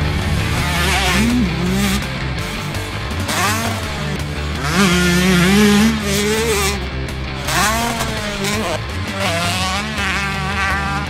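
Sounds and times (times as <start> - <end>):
motocross bike revving: 0.0 - 11.0
rock music with guitar: 0.0 - 11.0.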